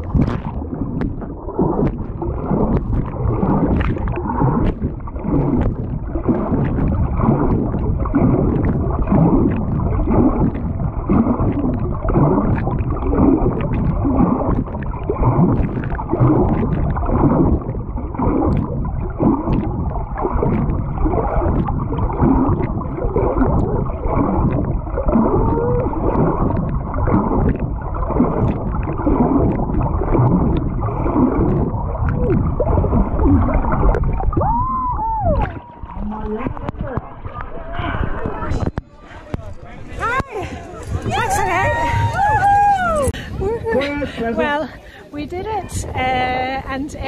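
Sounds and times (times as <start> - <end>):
underwater churning water and bubbles: 0.0 - 47.0.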